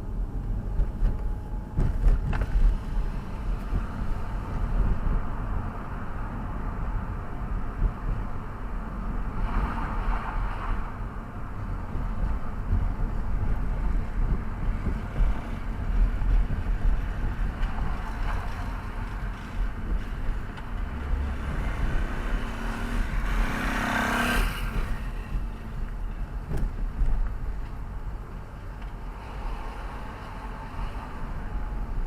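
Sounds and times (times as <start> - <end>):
road and engine noise in car: 0.0 - 32.0.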